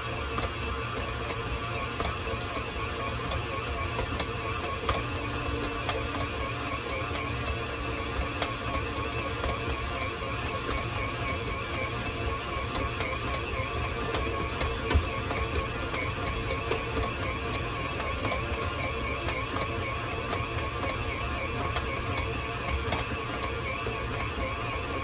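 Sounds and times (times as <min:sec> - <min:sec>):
stand mixer motor humming: 0:00.0 - 0:25.0.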